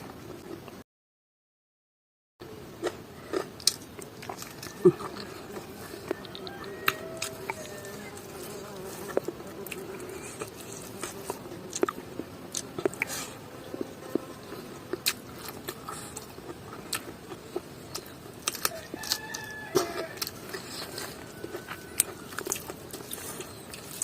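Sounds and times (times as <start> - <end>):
person chewing with mouth clicks: 2.8 - 24.0.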